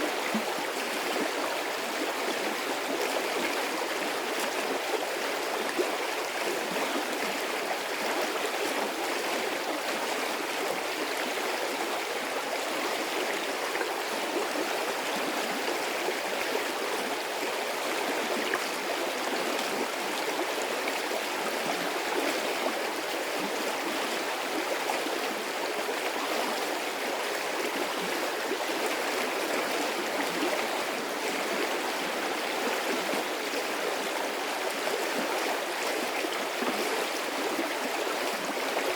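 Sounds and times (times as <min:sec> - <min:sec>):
stream running water: 0:00.0 - 0:38.9.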